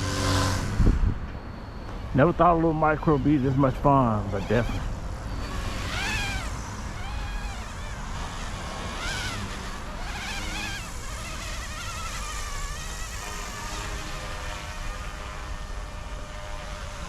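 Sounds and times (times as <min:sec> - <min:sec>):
toy helicopter motors whining: 0:01.8 - 0:17.0.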